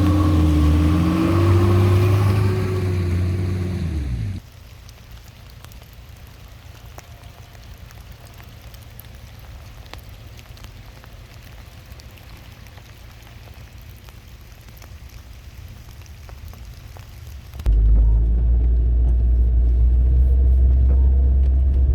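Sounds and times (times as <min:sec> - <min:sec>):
rain hiss: 0:00.0 - 0:17.7
raindrops ticking on surfaces: 0:00.0 - 0:19.8
low steady rumble: 0:00.0 - 0:21.9.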